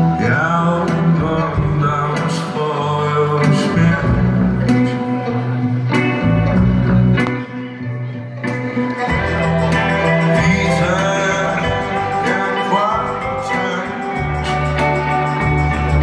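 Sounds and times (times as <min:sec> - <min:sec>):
bass line: 0:00.0 - 0:16.0
electric guitar: 0:00.0 - 0:16.0.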